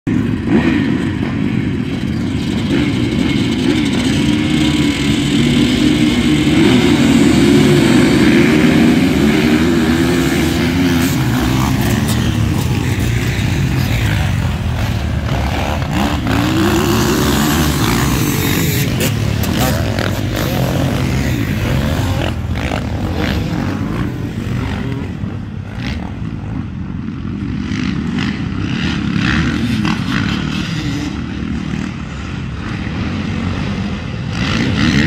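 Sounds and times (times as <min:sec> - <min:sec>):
motocross bikes revving: 0:00.1 - 0:35.0.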